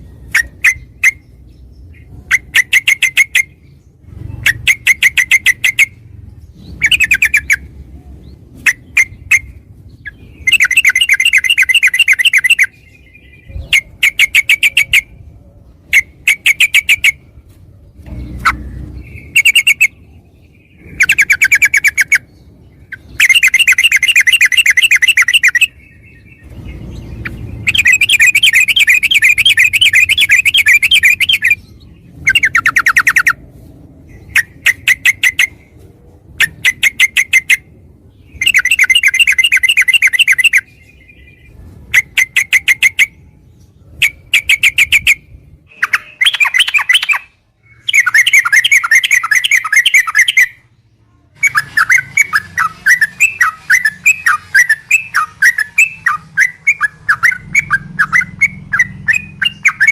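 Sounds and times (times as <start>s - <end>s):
bulbul singing: 0.0s - 59.9s.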